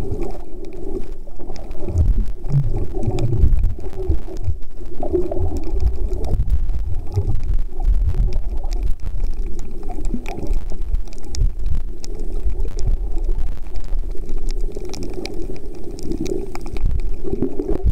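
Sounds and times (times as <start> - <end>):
faint sharp clicks: 0.0 - 17.8
underwater rumble: 0.0 - 17.9.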